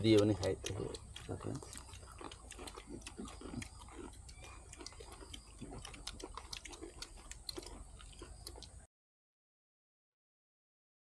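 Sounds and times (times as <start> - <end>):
chewing and lip-smacking: 0.0 - 8.9.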